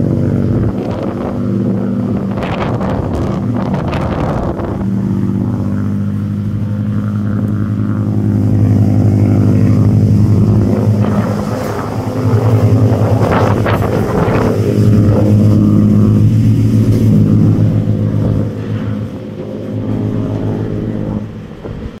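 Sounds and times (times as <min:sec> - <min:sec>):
boat engine running: 0:00.0 - 0:22.0
water splashing against hull: 0:00.0 - 0:22.0.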